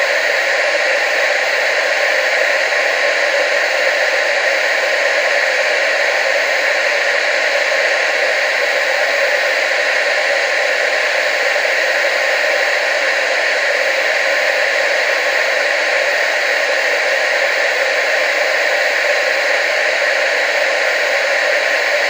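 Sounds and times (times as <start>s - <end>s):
tv static hiss: 0.0s - 22.0s.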